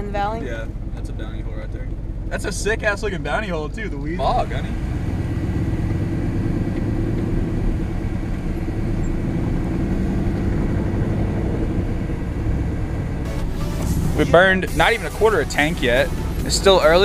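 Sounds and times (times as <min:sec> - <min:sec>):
pickup truck engine droning: 0:00.0 - 0:17.0.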